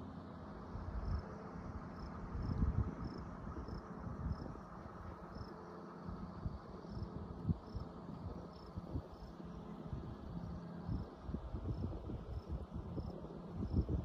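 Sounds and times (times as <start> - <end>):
wind buffeting microphone: 2.2 - 5.5, 6.1 - 14.0.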